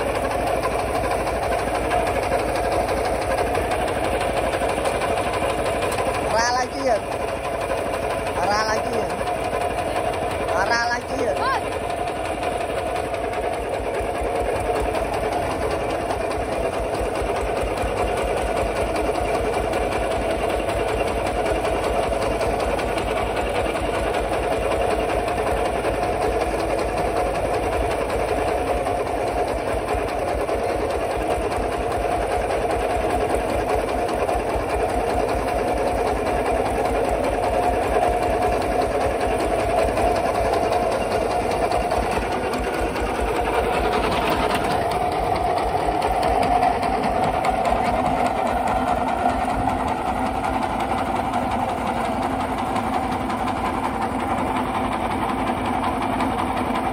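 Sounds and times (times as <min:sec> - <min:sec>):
diesel engine chugging: 0:00.0 - 0:56.9.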